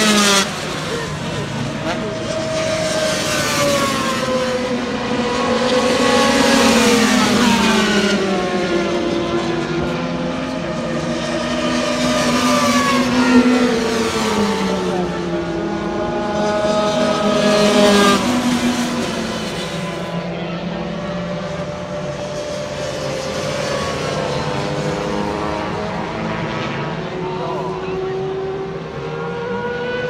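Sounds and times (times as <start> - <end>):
racing motorcycles passing: 0.0 - 30.0.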